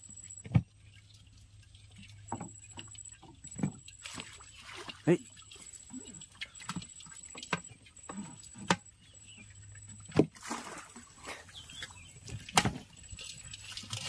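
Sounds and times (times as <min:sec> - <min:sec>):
water splashing at boat: 0:00.3 - 0:14.0.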